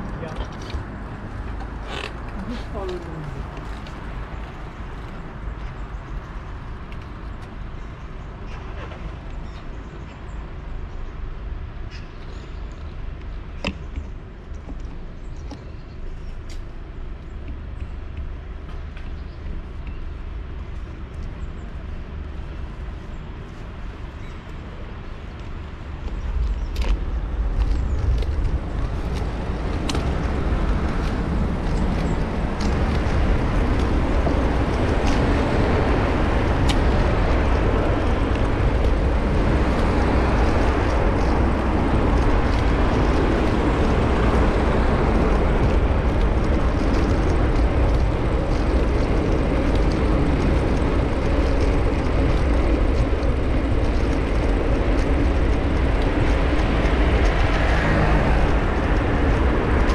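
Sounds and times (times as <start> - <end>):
road traffic: 0.0 - 59.9
wind rushing over microphone: 0.0 - 59.9.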